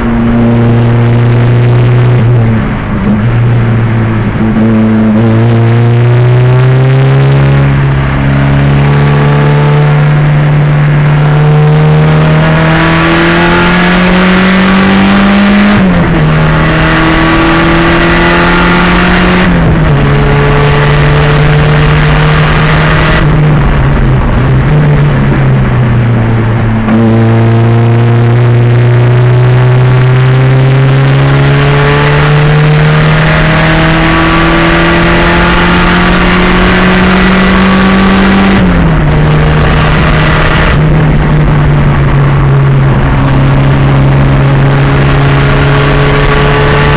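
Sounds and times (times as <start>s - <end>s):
race car engine accelerating: 0.0s - 46.9s.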